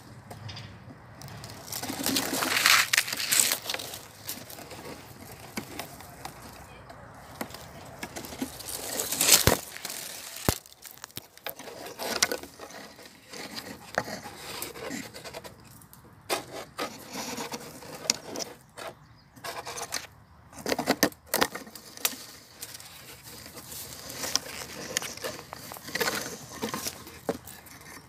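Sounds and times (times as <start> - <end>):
rustling and scraping: 0.0 - 28.0.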